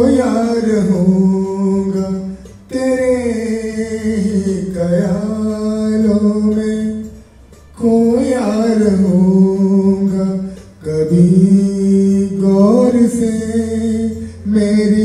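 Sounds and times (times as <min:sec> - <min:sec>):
man singing wordless notes: 0:00.0 - 0:15.0.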